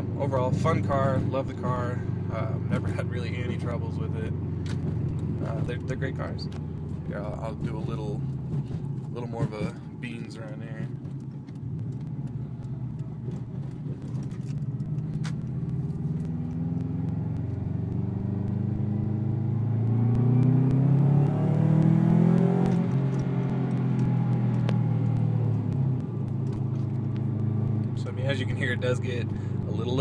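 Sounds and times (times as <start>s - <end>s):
turbocharged car engine revving: 0.0s - 30.0s.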